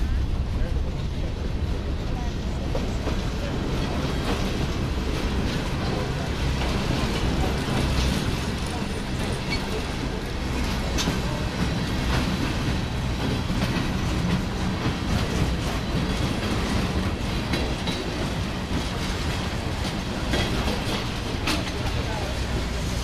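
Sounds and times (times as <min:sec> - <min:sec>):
sharp clicks of train wheels: 0:00.0 - 0:23.0
train wheels rumbling on rails: 0:00.0 - 0:23.0.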